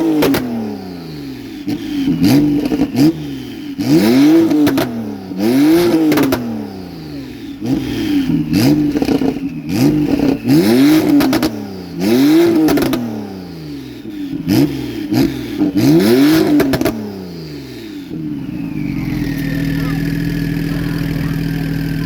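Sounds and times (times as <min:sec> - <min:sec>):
car engine revving: 0:00.0 - 0:22.0
exhaust crackles: 0:00.0 - 0:22.0.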